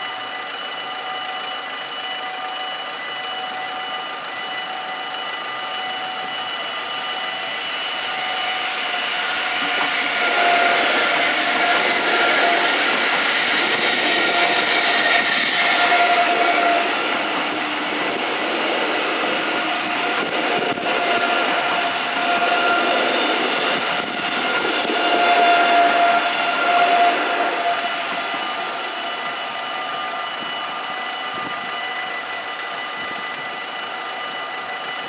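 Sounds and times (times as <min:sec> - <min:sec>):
crossing warning bells ringing: 0:00.0 - 0:35.0
high whine: 0:00.0 - 0:35.0
train rushing past: 0:03.8 - 0:35.0.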